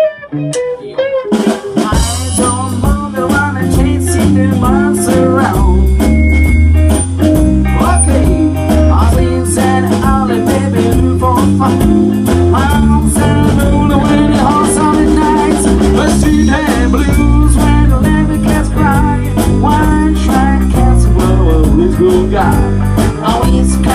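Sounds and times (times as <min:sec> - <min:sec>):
drum kit: 0:00.0 - 0:23.9
electric bass: 0:00.0 - 0:23.9
electric guitar lead line: 0:00.0 - 0:23.9.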